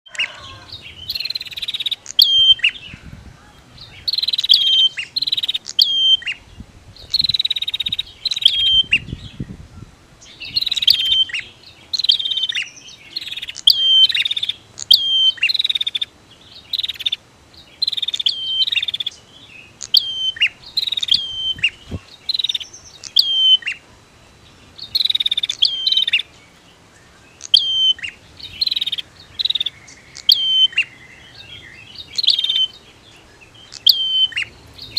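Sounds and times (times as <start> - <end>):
birds calling back and forth: 0.0 - 34.9.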